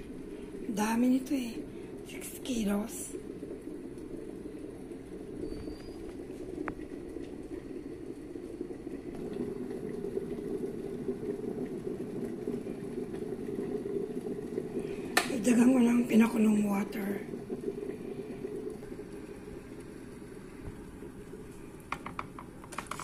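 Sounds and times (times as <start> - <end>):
water boiling: 0.0 - 23.0.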